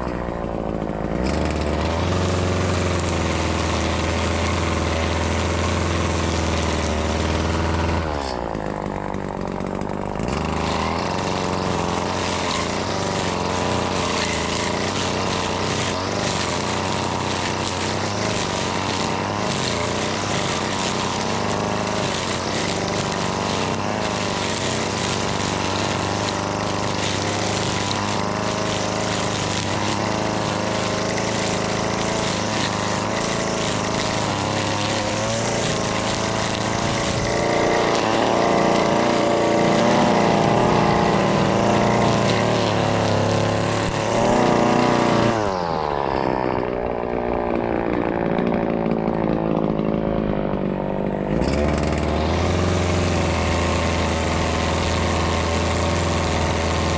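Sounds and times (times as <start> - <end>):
string trimmer engine running: 0.0 - 56.9.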